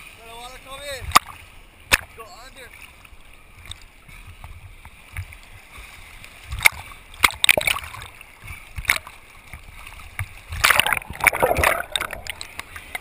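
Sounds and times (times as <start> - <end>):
seawater sloshing and splashing: 0.0 - 13.0.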